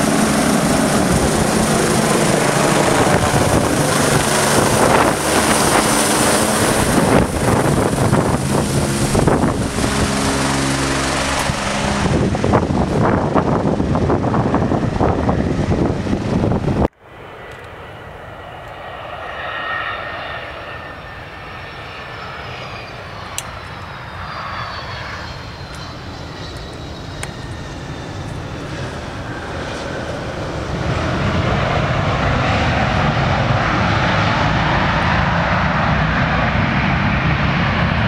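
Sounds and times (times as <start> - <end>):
jet engine noise with falling whine: 0.0 - 38.0.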